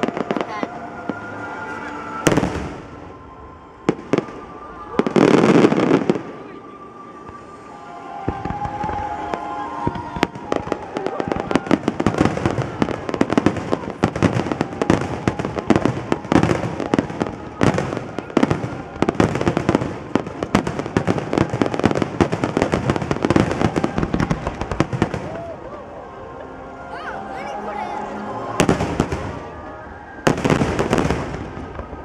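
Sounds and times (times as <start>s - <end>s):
fireworks bursting: 0.0s - 26.6s, 28.2s - 32.0s.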